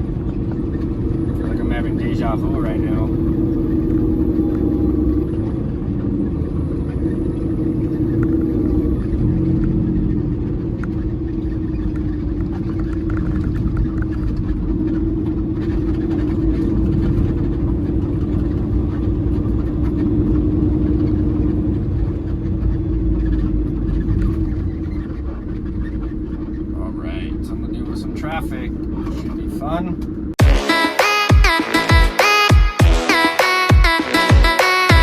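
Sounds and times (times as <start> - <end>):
road rumble: 0.0 - 30.4
diesel truck engine droning: 0.0 - 30.5.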